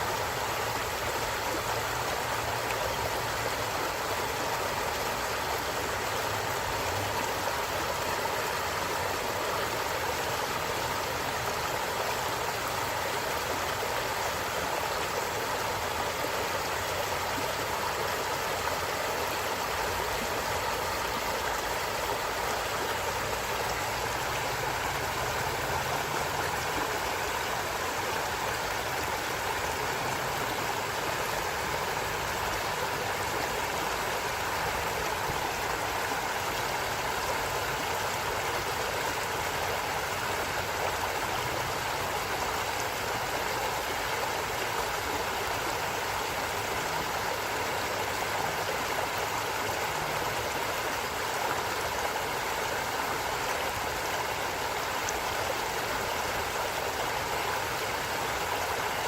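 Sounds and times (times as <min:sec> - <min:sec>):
stream rushing and gurgling: 0:00.0 - 0:59.0.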